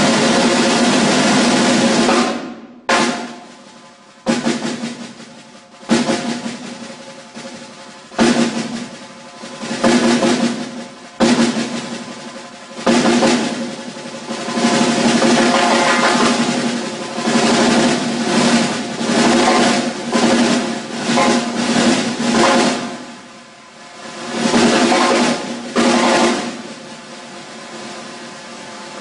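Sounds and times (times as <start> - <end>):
snare drum rolls and accents: 0.0 - 29.0.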